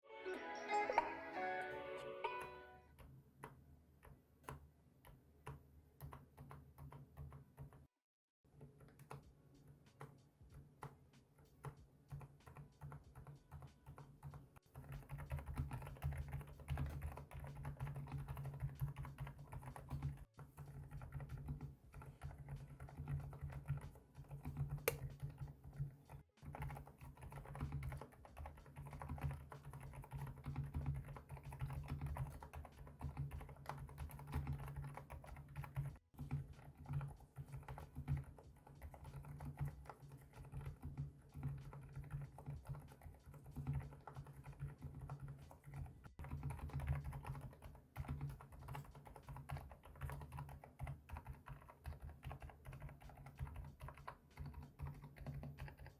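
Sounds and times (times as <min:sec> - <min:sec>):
mechanical keyboard typing: 0:02.3 - 0:07.9, 0:11.6 - 0:55.9.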